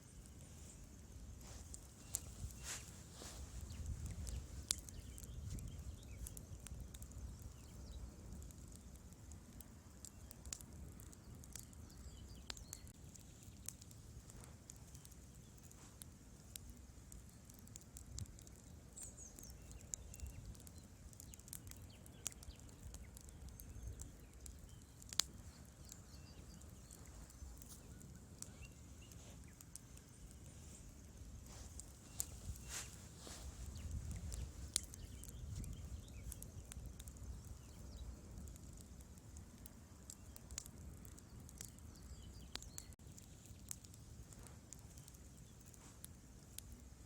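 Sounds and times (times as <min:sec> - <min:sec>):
faint low rumble: 0:00.0 - 0:17.6, 0:22.3 - 0:47.0
wood fire crackling: 0:00.0 - 0:47.0.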